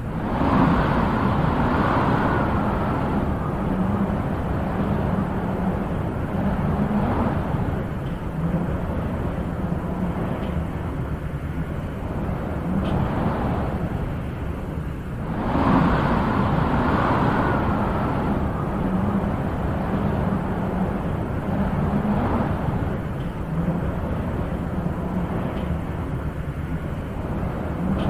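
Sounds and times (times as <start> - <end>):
wind blowing in gusts: 0.0 - 28.0.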